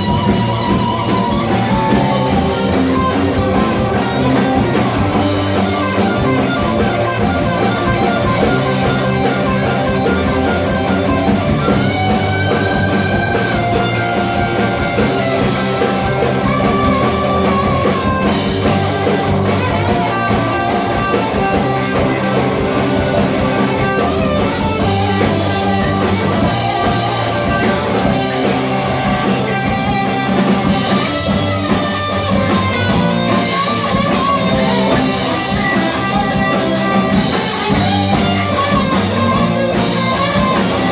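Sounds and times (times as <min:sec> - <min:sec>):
bass guitar: 0:00.0 - 0:40.9
drum kit: 0:00.0 - 0:40.9
electric guitar lead: 0:00.0 - 0:40.9.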